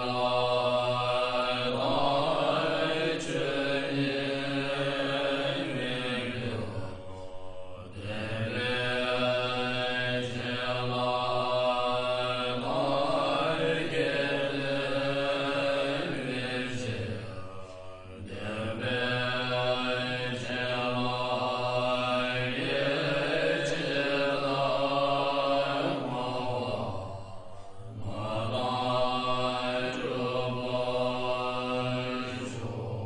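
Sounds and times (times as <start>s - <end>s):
low mantra chanting: 0.0s - 33.0s.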